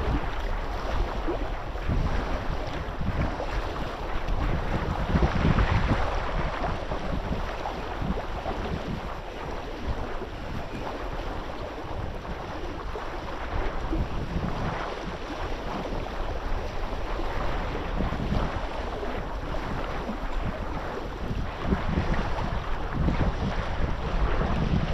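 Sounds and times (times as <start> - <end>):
water and waves washing: 0.0 - 24.9
wind buffeting microphone: 0.0 - 24.9.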